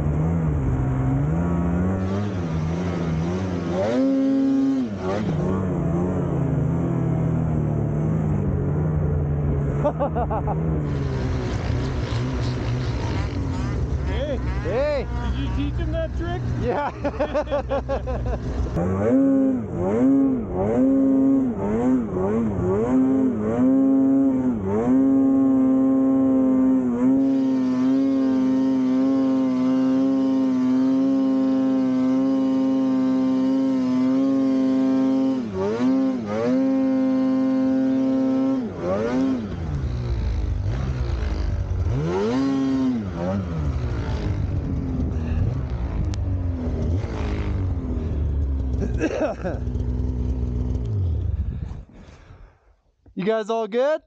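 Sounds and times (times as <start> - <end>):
snowmobile engine revving: 0.0 - 8.7, 9.5 - 52.5.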